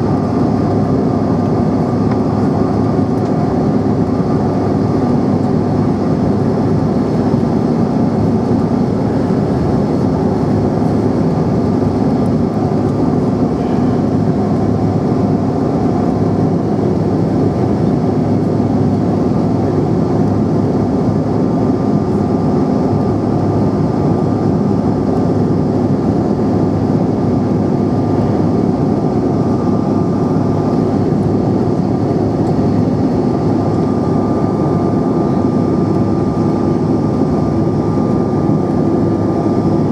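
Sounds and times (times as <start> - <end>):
jet cabin engine rumble: 0.0 - 39.9
high steady whine: 1.4 - 39.9.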